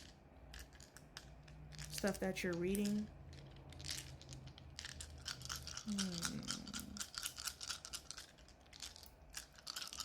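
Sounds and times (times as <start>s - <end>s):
dice clicking and rattling: 0.0s - 10.0s.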